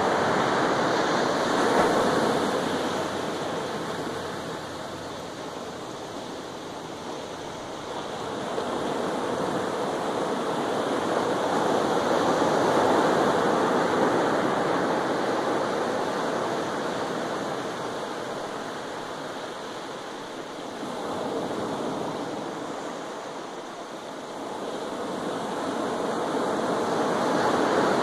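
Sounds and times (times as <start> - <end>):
surf breaking on a beach: 0.0 - 28.0.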